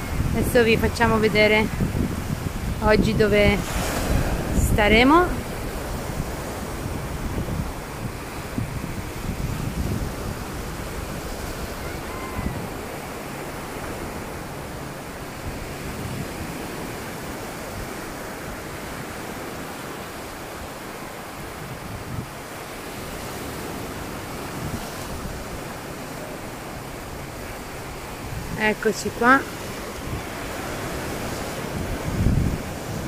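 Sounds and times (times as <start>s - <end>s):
sea surf washing onto beach: 0.0s - 33.0s
wind buffeting microphone: 0.0s - 33.0s.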